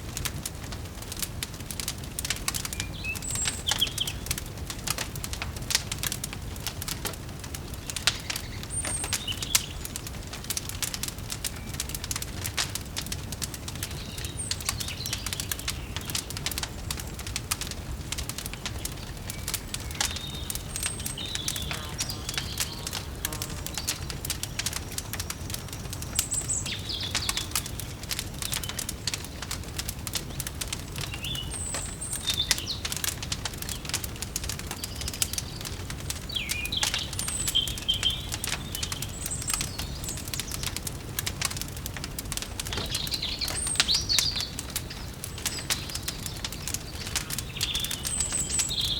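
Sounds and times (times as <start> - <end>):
wood fire crackling: 0.0 - 48.9
small birds chirping: 1.7 - 48.9.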